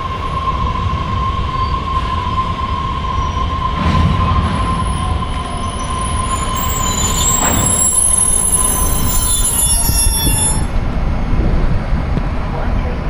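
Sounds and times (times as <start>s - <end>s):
train wheels squealing: 0.0s - 10.8s
low rolling rumble: 0.0s - 13.0s.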